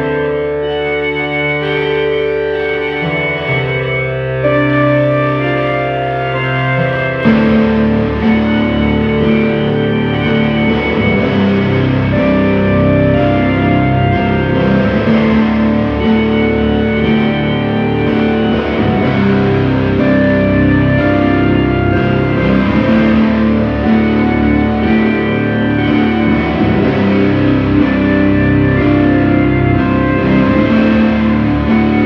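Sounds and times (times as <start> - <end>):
distorted electric guitar drone: 0.0 - 32.0
keyboard held notes: 0.0 - 32.0.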